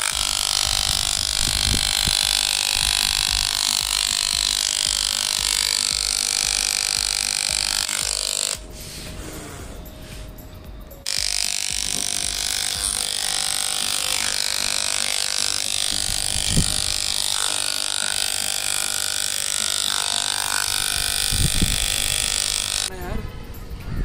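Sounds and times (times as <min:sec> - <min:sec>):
electric hair clipper buzzing: 0:00.0 - 0:08.8, 0:11.0 - 0:22.9.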